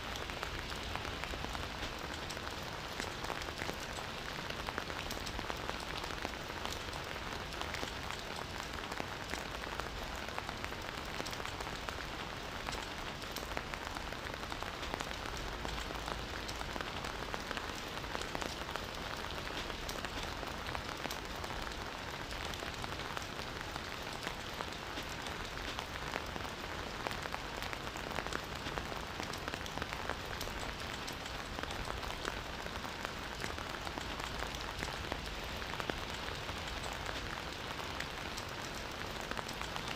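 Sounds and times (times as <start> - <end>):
steady rain: 0.0 - 39.9
raindrop hits: 0.1 - 39.9.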